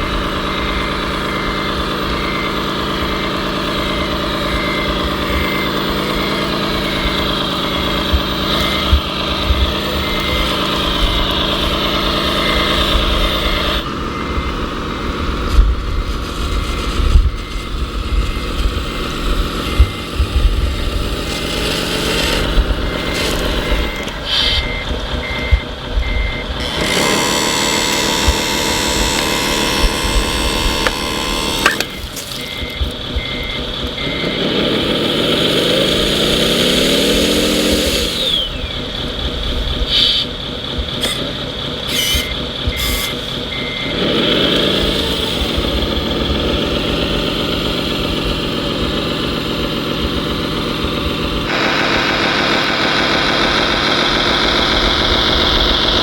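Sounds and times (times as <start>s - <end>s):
rising motor whine: 0.0s - 41.2s, 41.9s - 56.0s
reversing beeper: 0.0s - 45.8s
toy truck motors running: 0.0s - 56.0s.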